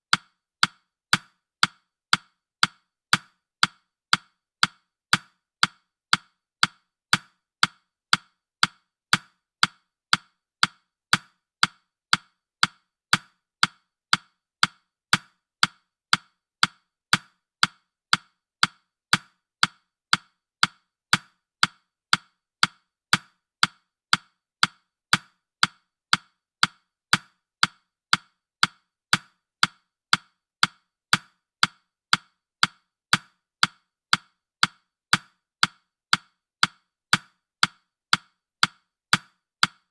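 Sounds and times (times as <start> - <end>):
timer ticking clicks: 0.0 - 39.9.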